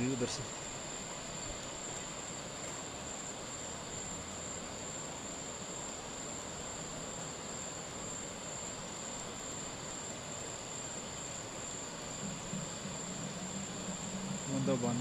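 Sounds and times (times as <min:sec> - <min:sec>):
crickets droning: 0:00.0 - 0:15.0
faint low hum: 0:00.0 - 0:15.0
light drizzle: 0:00.0 - 0:15.0.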